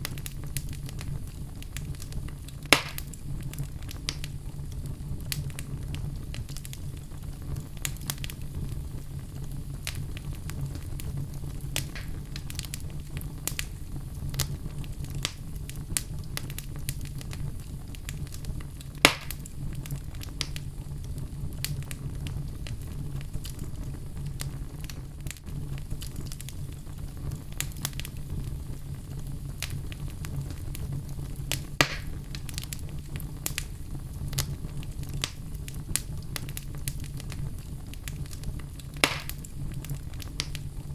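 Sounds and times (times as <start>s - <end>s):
fire crackling: 0.0s - 40.9s
fire flames rumbling: 0.0s - 40.9s
loud fire pops: 0.0s - 40.9s.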